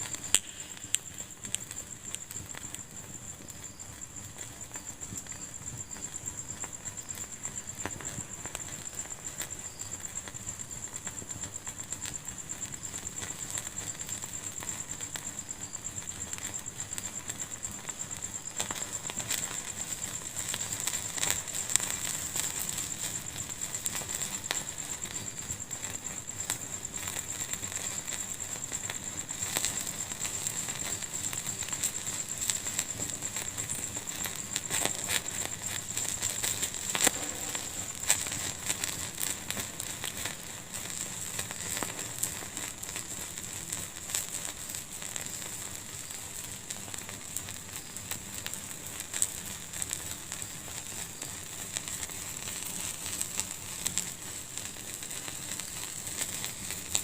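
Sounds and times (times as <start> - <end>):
fire crackling and popping: 0.0 - 57.0
fire hissing: 0.0 - 57.0.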